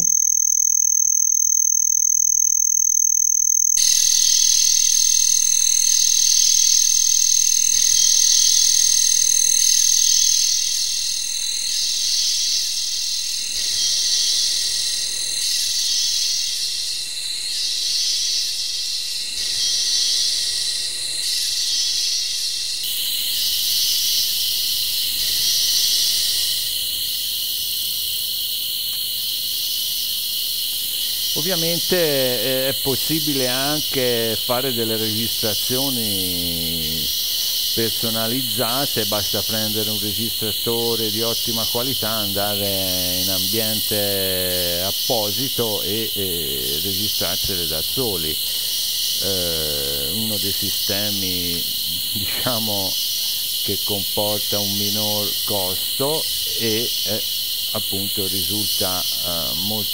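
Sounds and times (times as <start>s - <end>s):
dense continuous cicada buzz: 0.0s - 59.9s
pulsing cicada chorus: 0.0s - 59.9s
steady single-tone cicada buzz: 0.0s - 59.9s.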